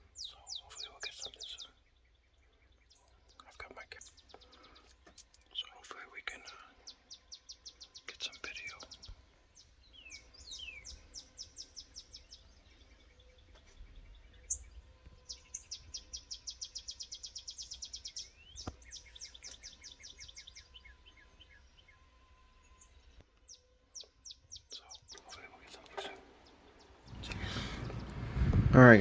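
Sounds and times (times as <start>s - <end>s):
songbirds singing: 0.0s - 29.0s.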